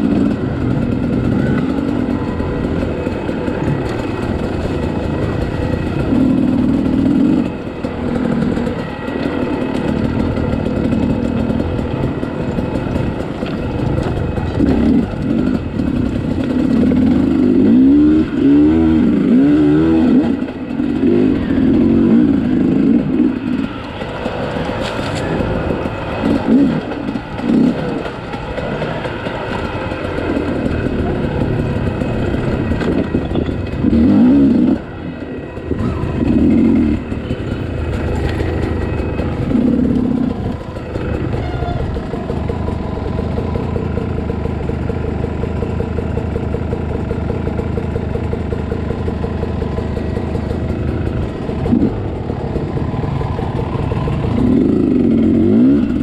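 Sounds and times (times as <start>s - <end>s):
dirt bike engine revving: 0.0s - 44.1s, 49.4s - 56.0s.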